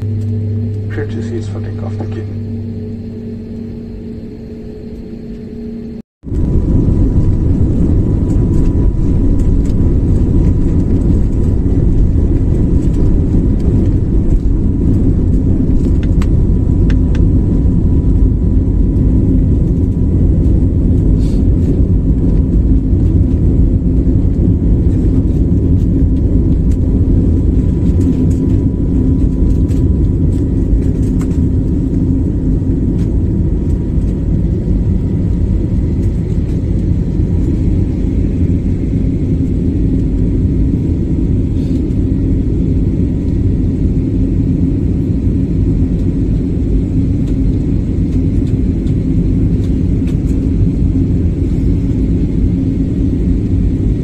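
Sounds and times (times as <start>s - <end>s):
jet engines heard from cabin: 0.0s - 54.0s.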